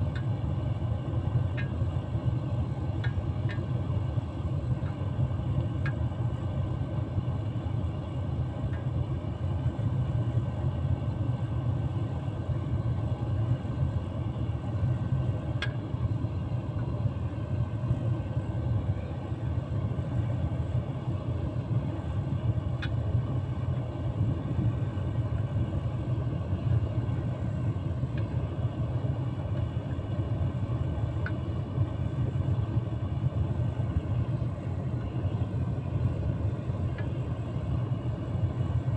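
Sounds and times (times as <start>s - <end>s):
furnace burner and blower rumble: 0.0s - 38.9s.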